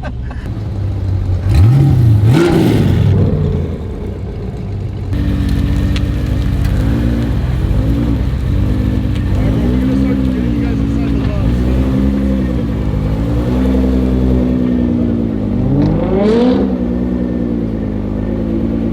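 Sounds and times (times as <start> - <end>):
car engine revving: 0.4 - 18.9.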